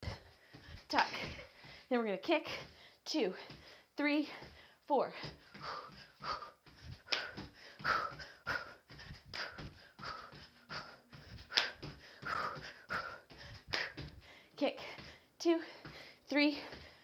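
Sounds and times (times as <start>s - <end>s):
person breathing hard: 0.0s - 1.9s, 2.5s - 17.0s.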